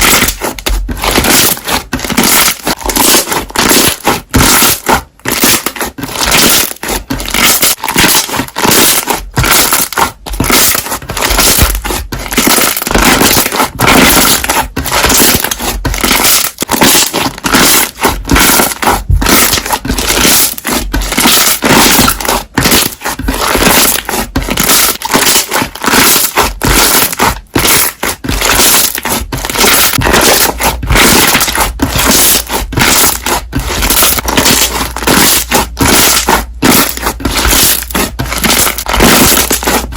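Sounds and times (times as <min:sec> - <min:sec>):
slime popping and crackling: 0:00.0 - 0:39.9.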